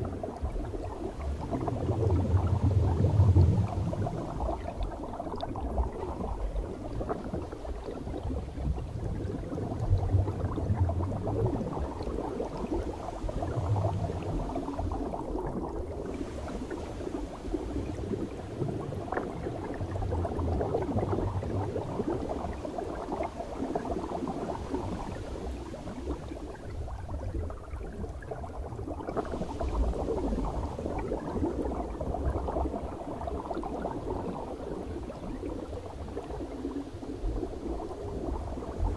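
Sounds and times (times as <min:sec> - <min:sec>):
low underwater rumbles: 0:00.0 - 0:38.9
underwater air bubbling: 0:00.0 - 0:38.9.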